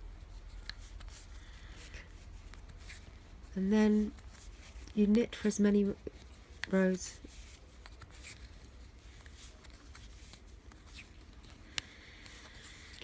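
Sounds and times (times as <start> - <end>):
yarn rustling: 0.0 - 13.0.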